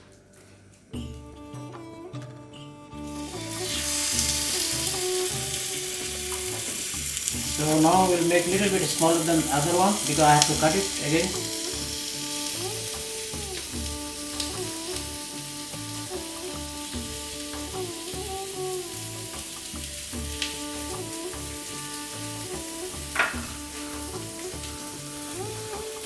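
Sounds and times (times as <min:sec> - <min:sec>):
background music with bass rhythm: 0:00.9 - 0:26.0
kebabs sizzling in hot oil: 0:03.0 - 0:26.0.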